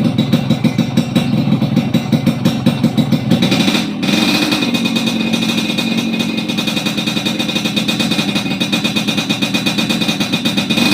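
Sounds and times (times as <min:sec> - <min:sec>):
two-stroke motorcycle engine idling: 0:00.0 - 0:10.9.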